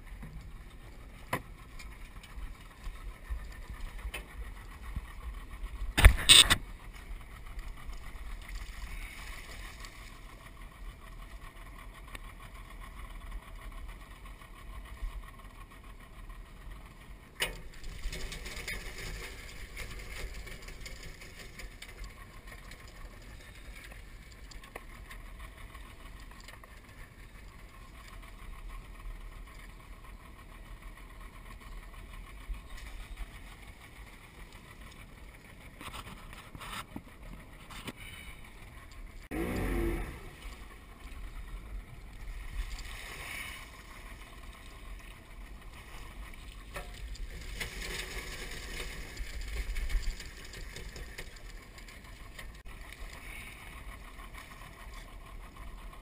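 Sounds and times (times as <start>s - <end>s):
outboard motor rumbling: 0.0s - 56.0s.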